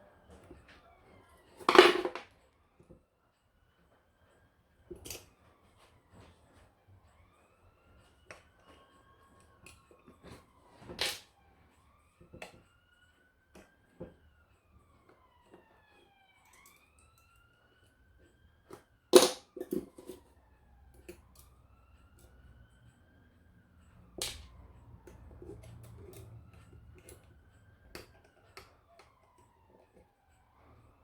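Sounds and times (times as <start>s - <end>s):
faint siren wailing: 0.0s - 31.0s.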